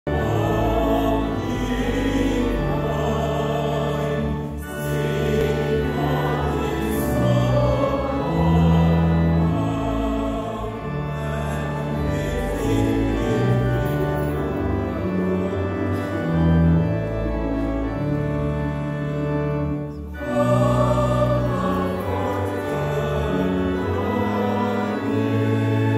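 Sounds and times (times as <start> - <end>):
choir and congregation singing a hymn: 0.1 - 25.9
instrumental accompaniment: 0.1 - 25.9.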